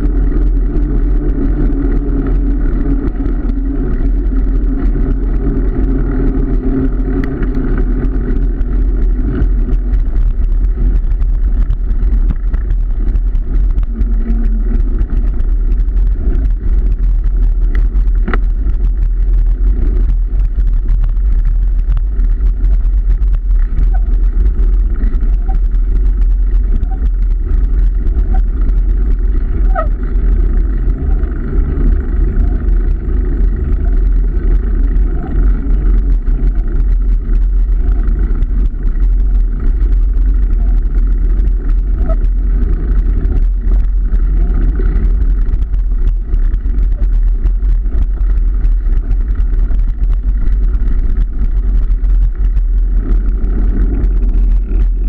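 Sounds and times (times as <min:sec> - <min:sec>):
faint ticks: 0:00.0 - 0:55.0
road noise: 0:00.0 - 0:55.0
wind rumble on microphone: 0:00.0 - 0:55.0.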